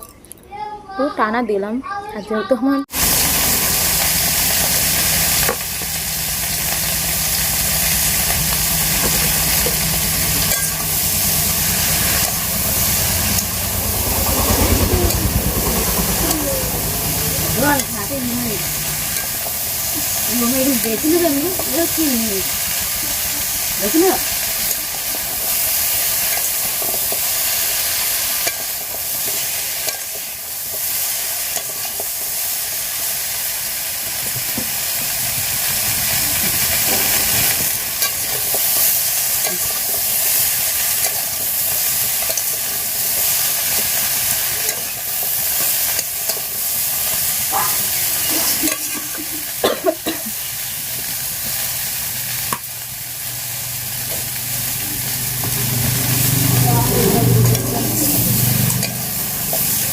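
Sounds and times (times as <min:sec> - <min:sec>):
food sizzling in a pan: 0:02.9 - 0:13.6, 0:16.2 - 0:59.9.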